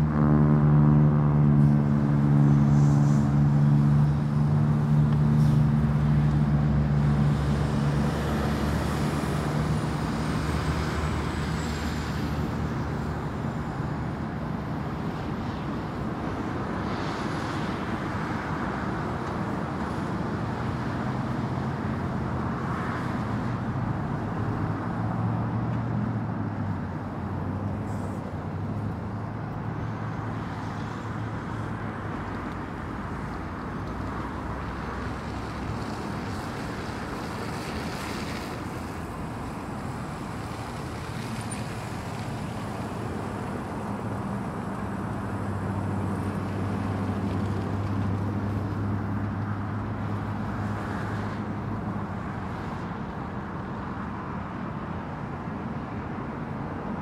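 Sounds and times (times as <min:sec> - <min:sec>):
heavy engine hum: 0:00.0 - 0:56.9
highway traffic rushing: 0:00.0 - 0:57.0.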